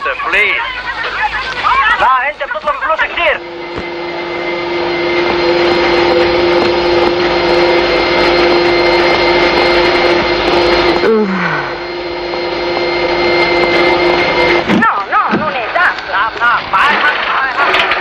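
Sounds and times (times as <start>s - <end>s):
vacuum cleaner motor whining hum: 0.0s - 18.0s.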